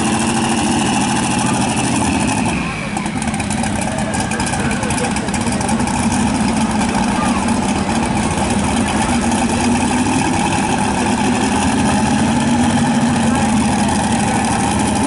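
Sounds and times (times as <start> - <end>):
truck engine running steadily: 0.0 - 15.0.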